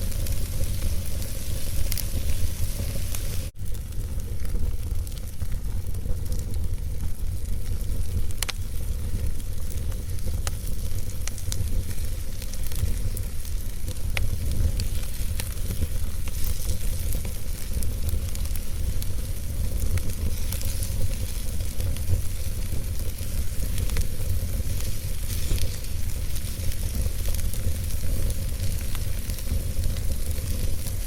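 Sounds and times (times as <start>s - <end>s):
campfire crackling and popping: 0.0s - 31.0s
low wind rumble: 0.0s - 31.0s.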